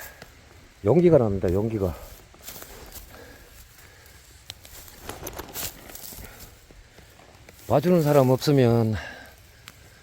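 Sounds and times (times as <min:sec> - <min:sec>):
rustling through bracken and grass: 0:00.0 - 0:10.0.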